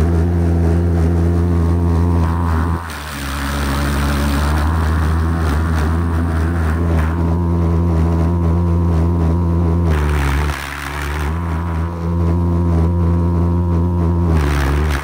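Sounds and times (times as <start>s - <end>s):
pulsejet deep buzzing drone: 0.0s - 15.0s.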